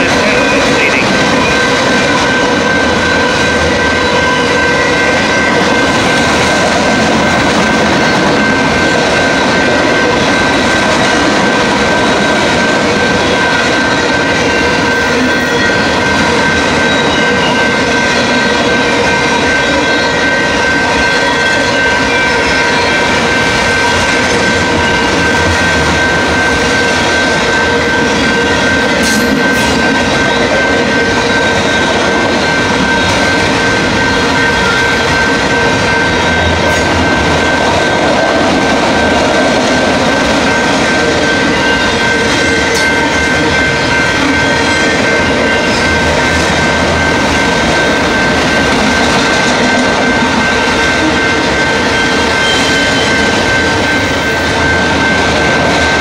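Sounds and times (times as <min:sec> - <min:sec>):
steady high tones: 0:00.0 - 0:56.0
train wheels rushing on rail: 0:00.0 - 0:56.0.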